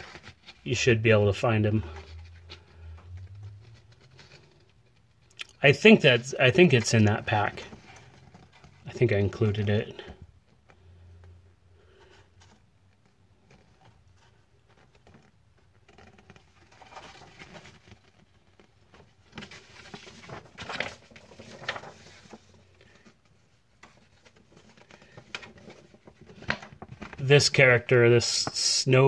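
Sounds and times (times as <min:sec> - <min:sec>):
paper booklet rustling: 0:00.0 - 0:28.7.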